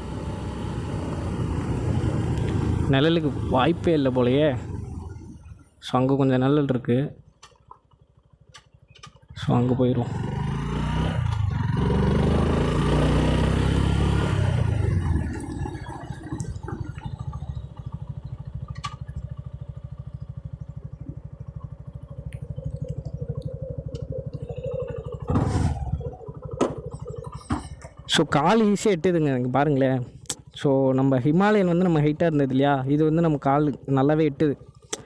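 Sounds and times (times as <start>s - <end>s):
motorcycle engine: 0.0s - 35.0s.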